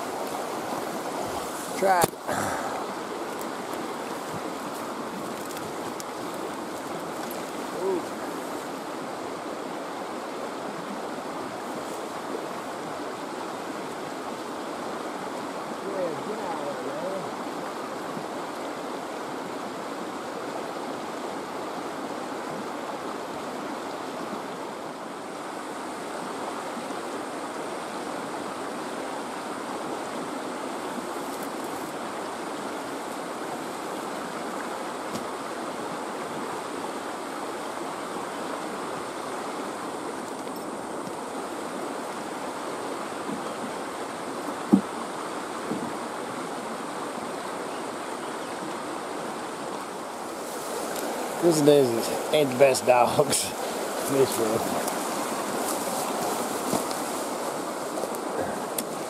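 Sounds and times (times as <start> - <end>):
fast river rushing: 0.0 - 59.0.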